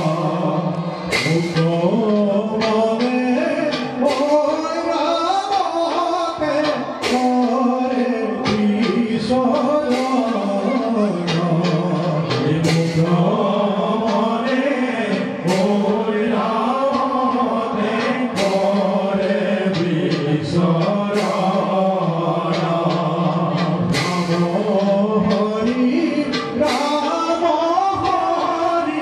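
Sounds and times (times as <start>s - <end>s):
sharp percussion strikes: 0.0s - 29.0s
voices singing chant-like lines: 0.0s - 29.0s.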